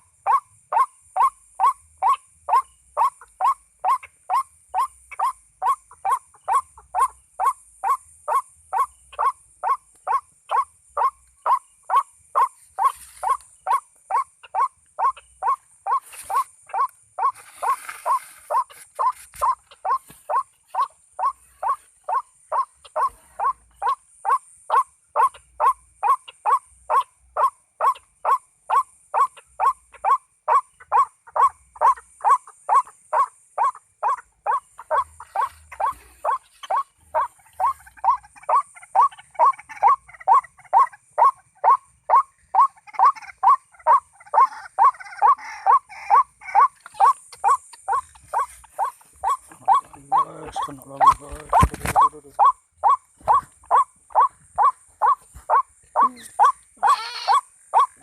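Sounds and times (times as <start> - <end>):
waterhen calling: 7.8 - 58.0.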